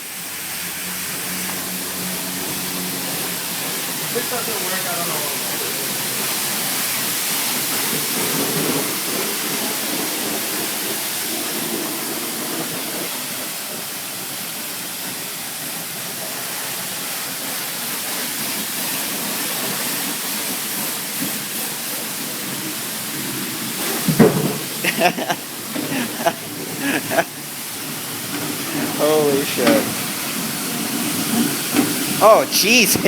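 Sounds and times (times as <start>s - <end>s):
pressure washer spraying water: 0.0s - 33.0s.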